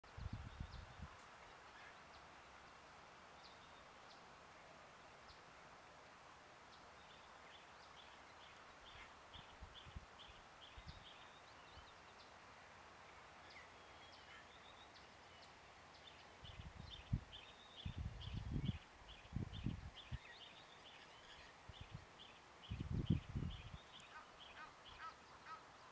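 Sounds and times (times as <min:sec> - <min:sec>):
faint bush ambience: 0:00.1 - 0:25.9.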